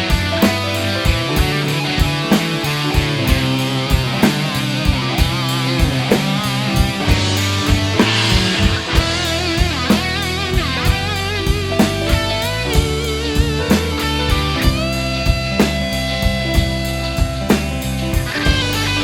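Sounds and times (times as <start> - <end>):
space rock band playing: 0.0 - 19.0
wavering lead guitar line: 0.0 - 19.0.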